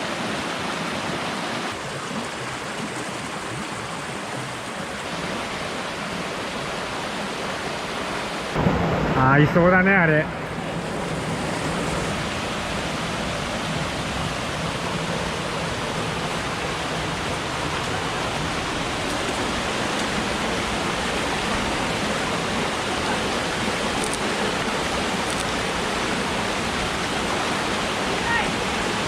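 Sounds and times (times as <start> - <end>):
rushing mountain stream: 0.0 - 29.0.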